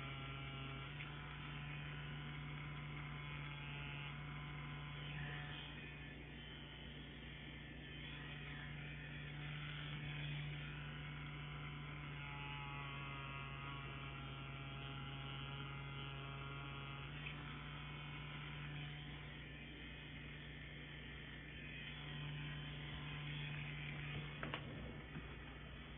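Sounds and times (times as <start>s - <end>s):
tattoo pen buzzing: 0.0s - 25.9s.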